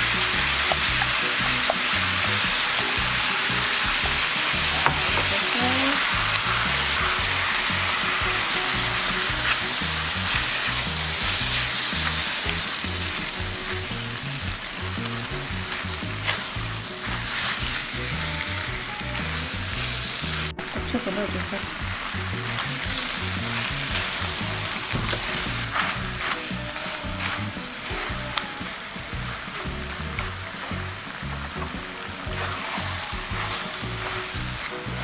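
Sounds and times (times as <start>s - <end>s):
food frying in pan: 0.0s - 35.0s
spatula scraping pan: 0.0s - 35.0s.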